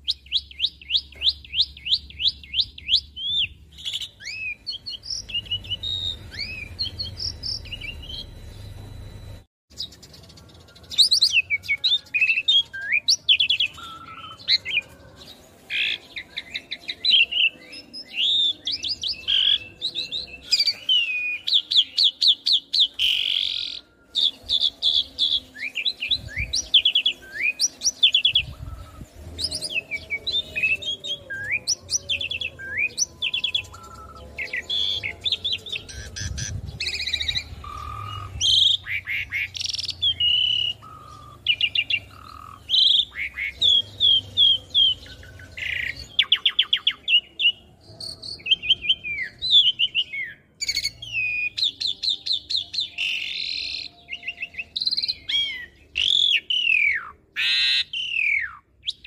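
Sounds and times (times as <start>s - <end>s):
starling singing: 0.0s - 8.7s, 9.7s - 59.0s.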